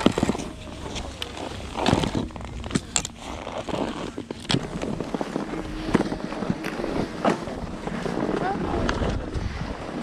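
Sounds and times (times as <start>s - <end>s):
boots scraping in snow: 0.0s - 8.8s
ski boots and skis clicking: 0.0s - 10.0s.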